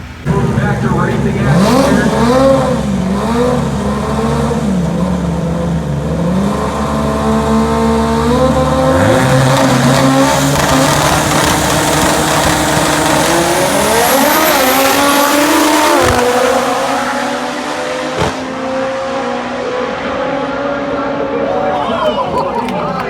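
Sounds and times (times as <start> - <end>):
drag racing car engine: 0.0 - 21.7.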